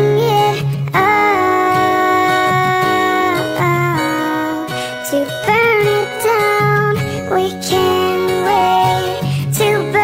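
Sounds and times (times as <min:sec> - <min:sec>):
sped-up high voices singing pop: 0:00.0 - 0:10.0.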